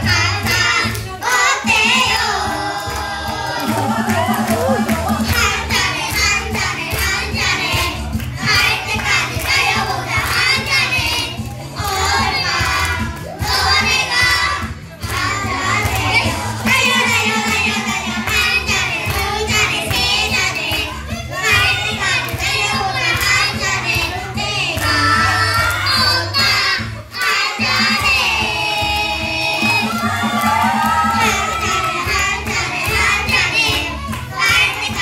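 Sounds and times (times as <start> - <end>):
backing music with low beat: 0.0 - 35.0
boys singing into microphones: 0.0 - 35.0.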